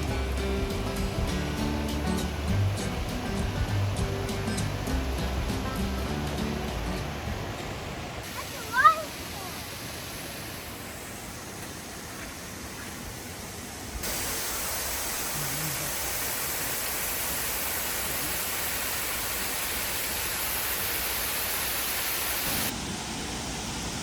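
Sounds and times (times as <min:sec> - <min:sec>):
waterfall rushing hiss: 0:00.0 - 0:24.0.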